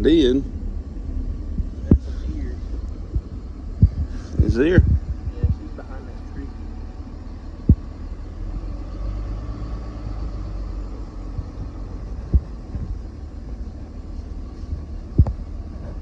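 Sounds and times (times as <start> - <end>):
vehicle idling rumble: 0.0 - 16.0.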